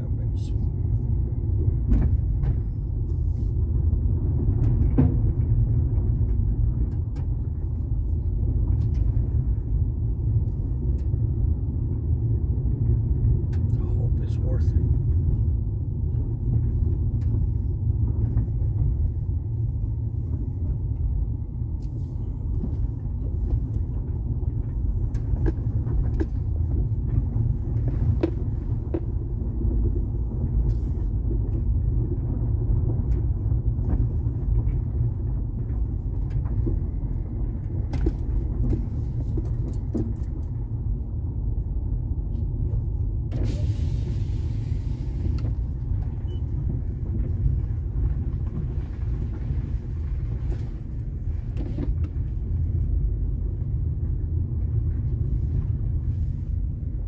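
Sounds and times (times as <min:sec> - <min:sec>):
tyres and engine rumble: 0:00.0 - 0:57.0.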